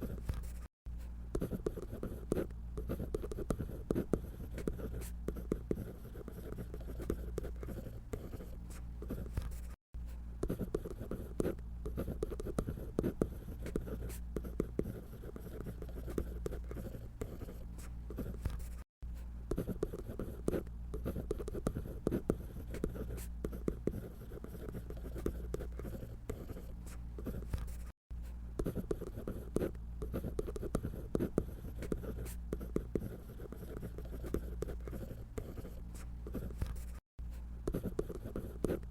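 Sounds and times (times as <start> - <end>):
drawing tool scratching paper: 0.0 - 0.7, 1.3 - 9.8, 10.4 - 18.9, 19.5 - 28.0, 28.6 - 37.0, 37.7 - 38.9.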